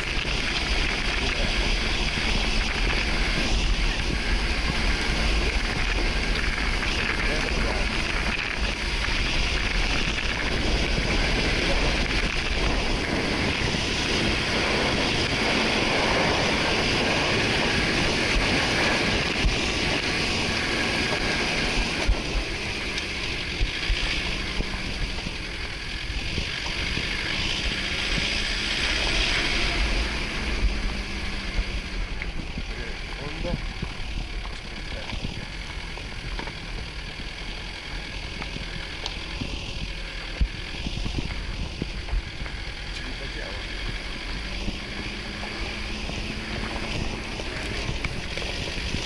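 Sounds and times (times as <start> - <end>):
off-road vehicle engine and tyres: 0.0 - 49.0
wind buffeting microphone: 0.0 - 49.0.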